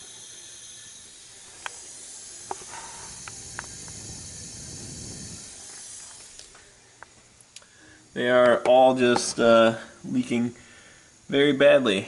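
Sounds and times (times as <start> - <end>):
compressed air hissing: 0.0 - 8.3, 9.1 - 11.4.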